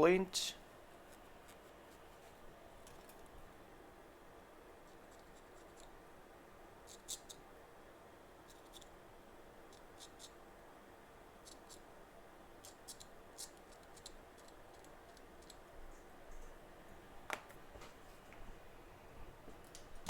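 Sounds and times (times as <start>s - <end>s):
steady low hiss: 0.0s - 20.0s.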